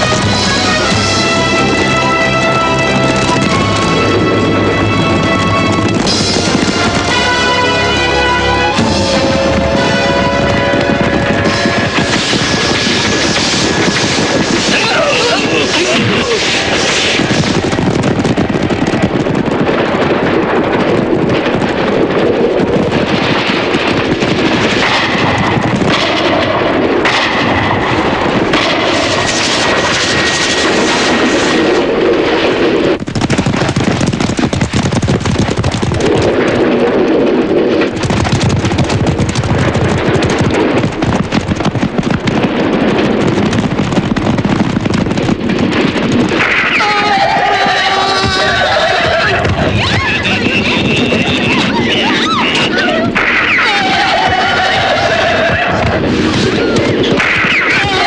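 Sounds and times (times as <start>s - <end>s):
rapid gunfire: 0.0s - 8.0s, 8.8s - 58.0s
galloping horse hooves: 0.0s - 26.8s, 32.8s - 58.0s.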